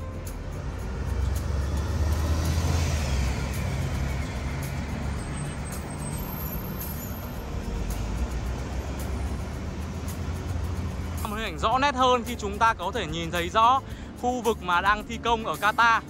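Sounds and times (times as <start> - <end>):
motorbike: 0.0 - 14.2
bus engine rumble: 0.0 - 16.0
road traffic: 0.0 - 16.0.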